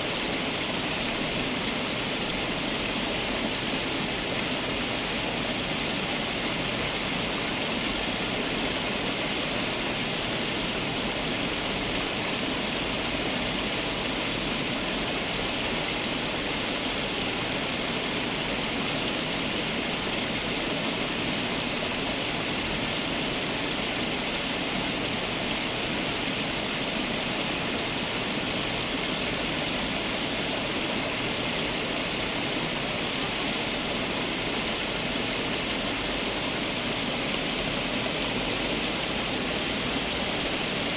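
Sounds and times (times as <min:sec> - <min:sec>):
fountain water splashing: 0:00.0 - 0:40.9.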